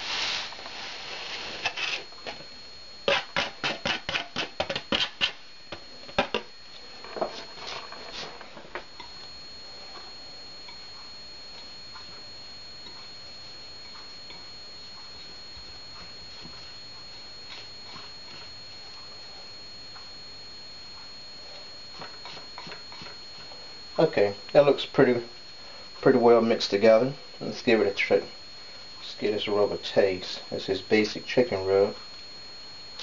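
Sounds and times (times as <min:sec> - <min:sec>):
faint high whine: 0:00.0 - 0:33.0.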